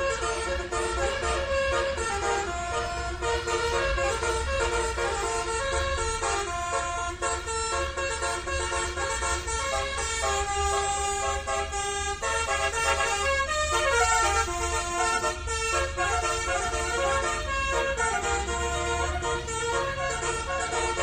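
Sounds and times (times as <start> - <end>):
musical horn playing a melody: 0.0 - 21.0.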